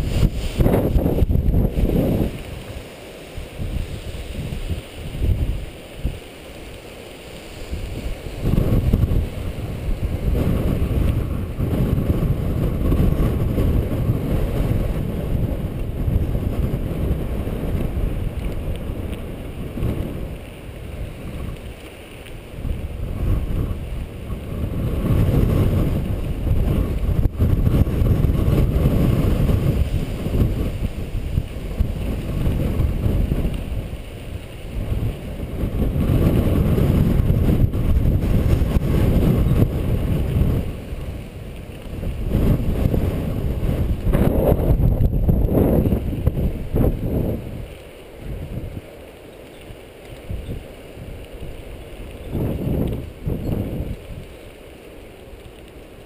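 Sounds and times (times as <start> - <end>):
bike tyre rumble and rattle: 0.0 - 56.0
wind buffeting microphone: 0.0 - 56.0.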